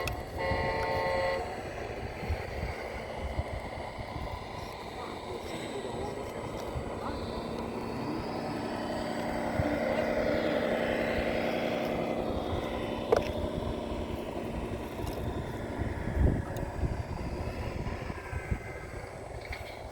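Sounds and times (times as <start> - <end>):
model motor whine: 0.0 - 19.9.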